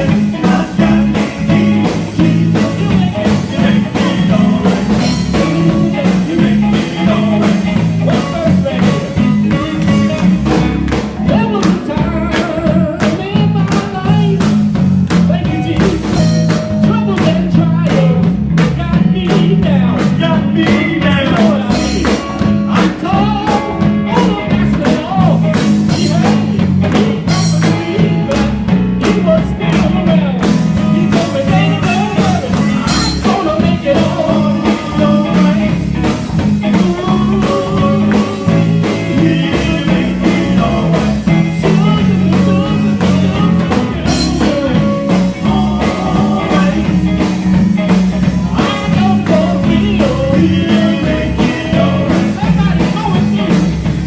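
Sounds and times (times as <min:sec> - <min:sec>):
gospel group singing: 0:00.0 - 0:14.4, 0:18.9 - 0:54.0
drums keeping a steady beat: 0:00.0 - 0:54.0
guitar: 0:00.0 - 0:54.0.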